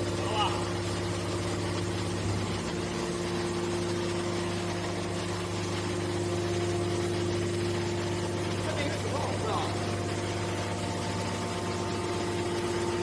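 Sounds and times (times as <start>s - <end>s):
hydraulic motor and pump hum: 0.0s - 13.0s.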